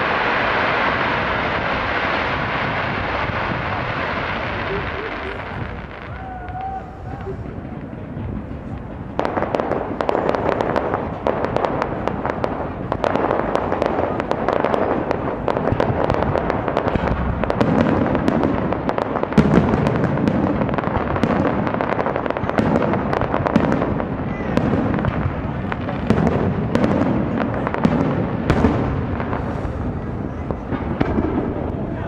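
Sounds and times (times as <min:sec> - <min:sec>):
fireworks crackling: 0:00.0 - 0:32.0
loud firework bang: 0:00.0 - 0:32.0.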